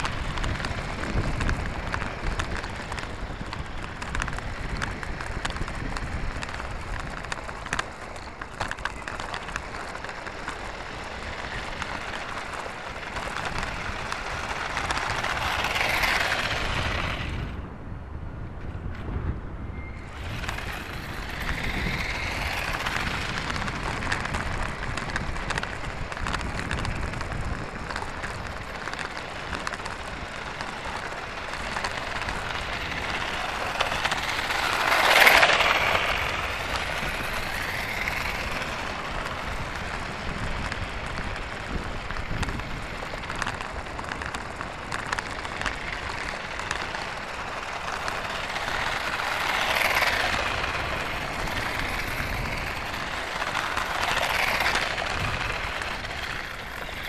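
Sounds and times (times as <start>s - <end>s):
toy car motor and wheels crackling: 0.0s - 17.8s, 19.7s - 57.0s.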